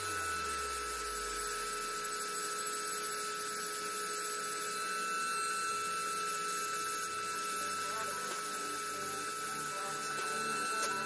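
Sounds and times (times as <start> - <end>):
electric hum: 0.0 - 11.0
thin high whine: 0.0 - 11.0.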